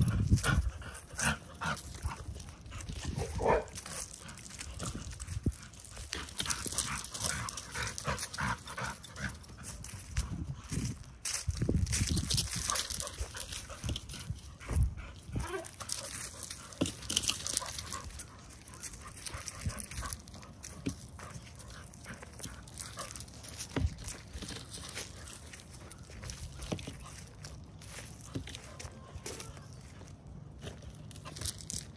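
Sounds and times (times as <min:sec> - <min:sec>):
rustling in dry leaves: 0:00.0 - 0:31.7.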